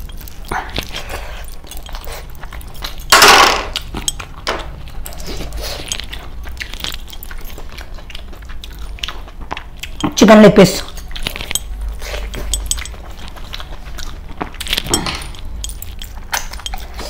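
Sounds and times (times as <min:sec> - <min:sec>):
wet chewing and lip-smacking: 0:00.0 - 0:03.1, 0:03.7 - 0:17.0.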